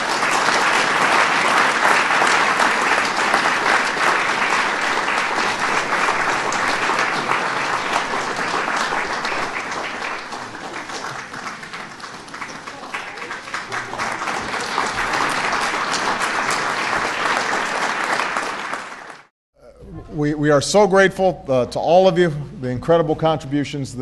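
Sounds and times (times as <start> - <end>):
audience applauding: 0.0 - 19.3.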